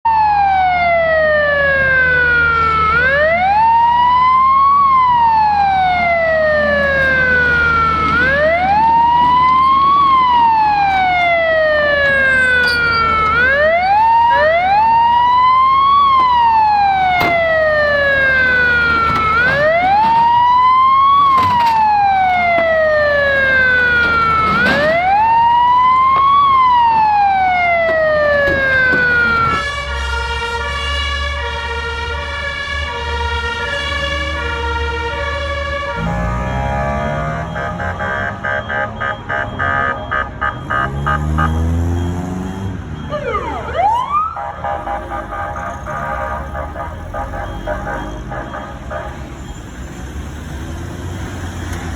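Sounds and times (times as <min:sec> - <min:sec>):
fire truck siren wailing: 0:00.0 - 0:50.6.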